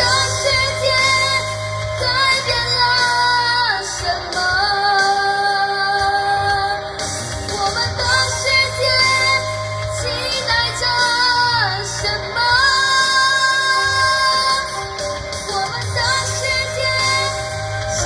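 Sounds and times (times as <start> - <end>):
backing track music: 0.0 - 18.0.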